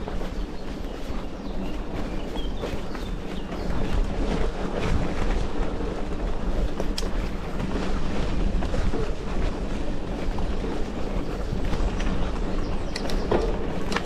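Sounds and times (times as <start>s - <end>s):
bike clicking and rattling: 0.0s - 14.0s
bike tyres on dirt: 0.0s - 14.0s
wind buffeting microphone: 0.0s - 14.0s.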